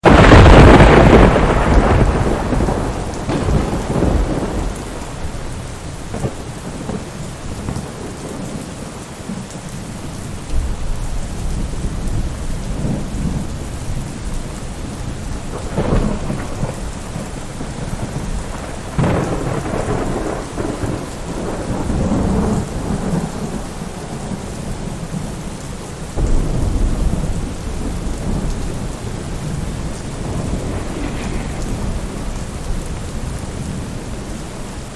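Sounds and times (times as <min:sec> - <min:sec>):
steady rain falling: 0:00.0 - 0:34.9
thunder crack and rumble: 0:00.0 - 0:34.9.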